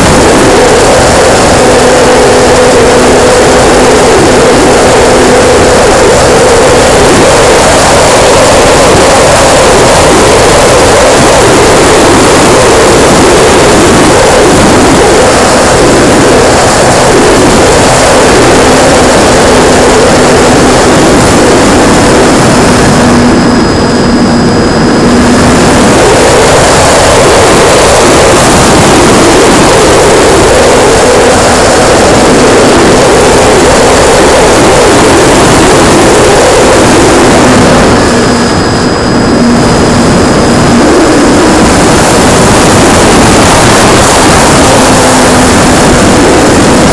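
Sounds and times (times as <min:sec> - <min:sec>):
model plane motor and propeller: 0:00.0 - 0:46.9
wind rush over microphone: 0:00.0 - 0:46.9.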